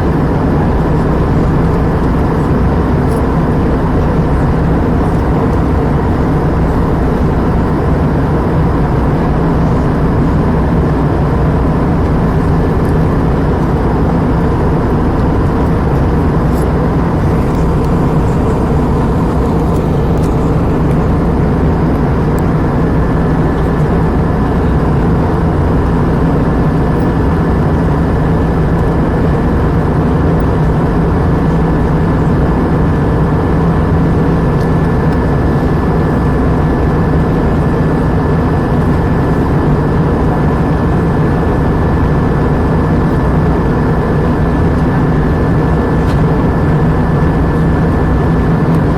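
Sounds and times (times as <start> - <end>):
airplane cabin engine drone: 0.0 - 48.9
faint thin whine: 0.0 - 48.9.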